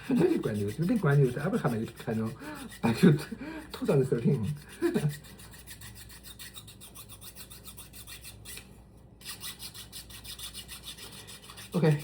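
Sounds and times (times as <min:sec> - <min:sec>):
hand-sanding strokes: 0:00.0 - 0:12.0.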